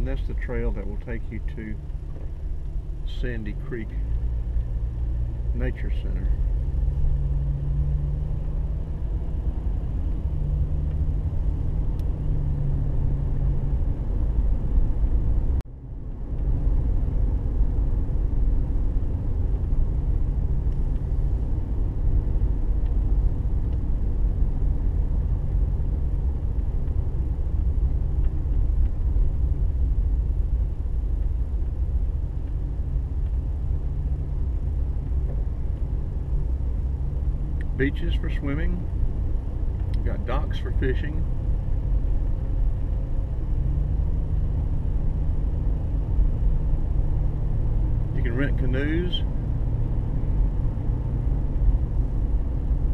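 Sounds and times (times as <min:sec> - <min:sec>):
car engine and road rumble: 0:00.0 - 0:52.9.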